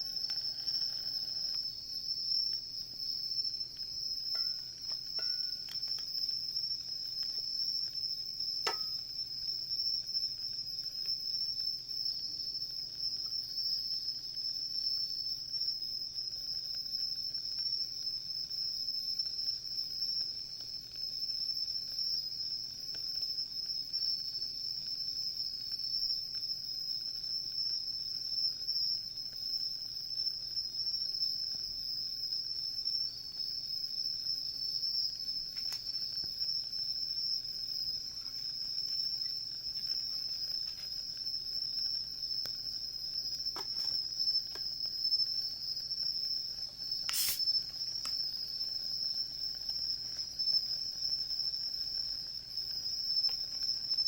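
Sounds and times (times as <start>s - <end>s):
campfire crackles: 0.0s - 54.0s
insects trilling: 0.0s - 54.0s.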